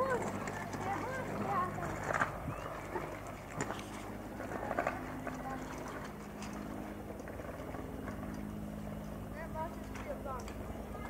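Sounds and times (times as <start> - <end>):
distant helicopter drone: 0.0 - 11.0.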